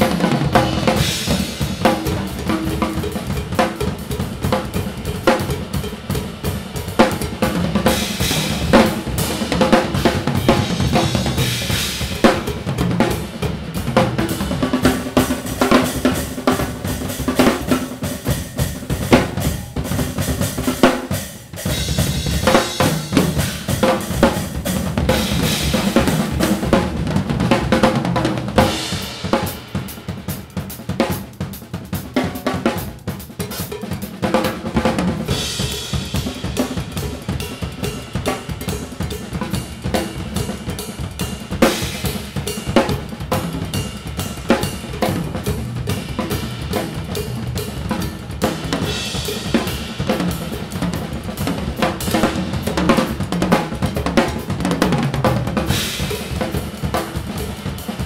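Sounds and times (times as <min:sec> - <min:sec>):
drum kits playing: 0:00.0 - 0:58.0.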